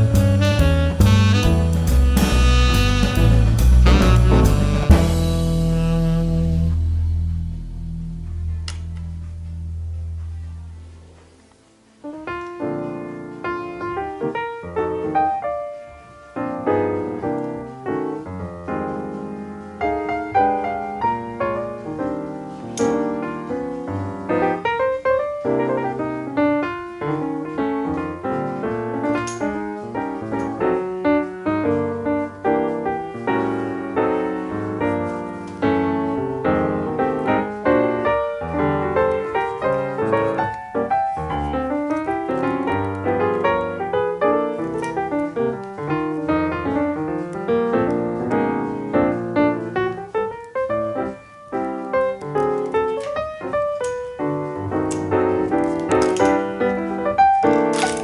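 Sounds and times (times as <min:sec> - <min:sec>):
fast piano run: 0:00.0 - 0:11.4, 0:12.0 - 0:58.0.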